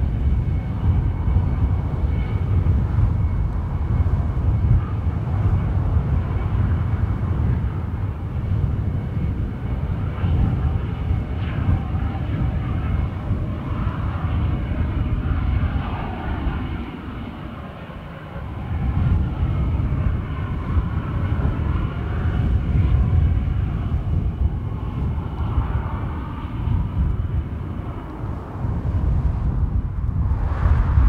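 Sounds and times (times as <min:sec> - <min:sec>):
jet engine running: 0:00.0 - 0:31.0
wind buffeting microphone: 0:00.0 - 0:31.0.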